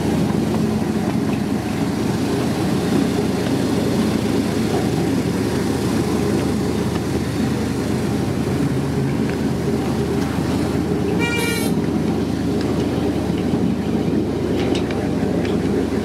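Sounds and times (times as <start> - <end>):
miniature locomotive engine drone: 0.0 - 16.0
train wheels rumbling: 0.0 - 16.0.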